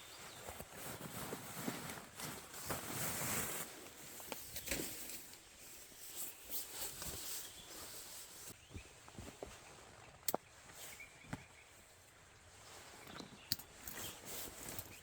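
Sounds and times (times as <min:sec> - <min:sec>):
fabric and gear rustling: 0:00.0 - 0:12.9, 0:13.7 - 0:15.0.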